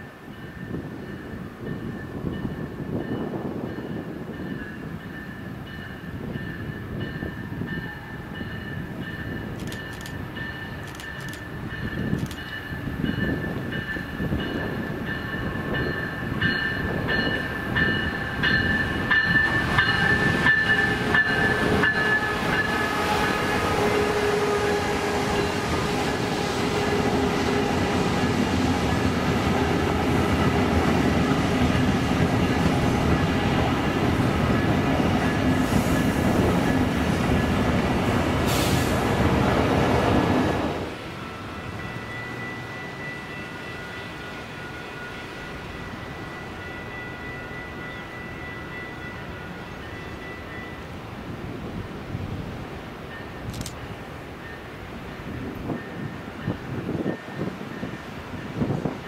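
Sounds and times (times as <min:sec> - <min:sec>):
high whine of train: 0:00.0 - 0:59.0
train wheels rolling on rails: 0:00.0 - 0:59.0.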